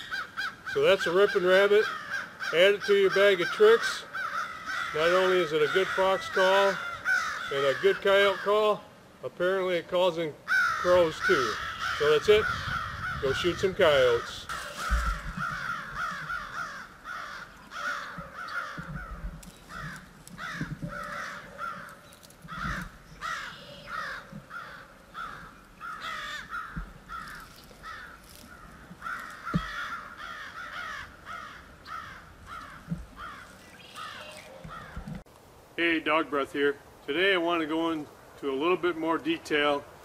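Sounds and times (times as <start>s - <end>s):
crows cawing: 0.0s - 8.8s, 10.4s - 35.2s.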